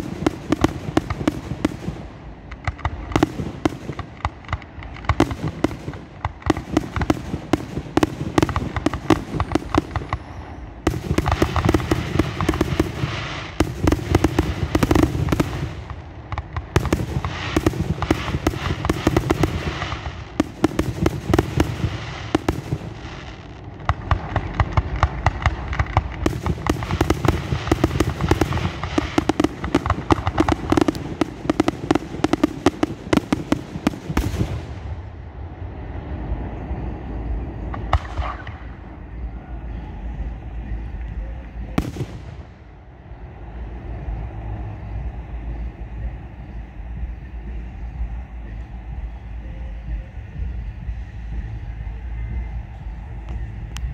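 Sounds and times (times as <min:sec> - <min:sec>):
fireworks bangs and crackles: 0:00.0 - 0:42.8, 0:43.6 - 0:53.9.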